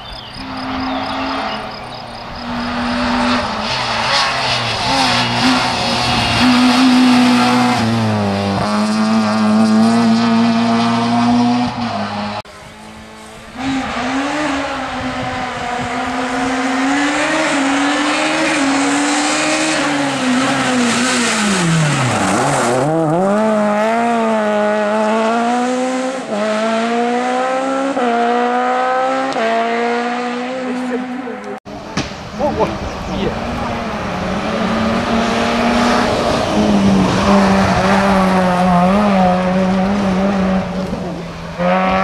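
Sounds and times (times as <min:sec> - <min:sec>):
rally car engine revving: 0:00.4 - 0:42.0.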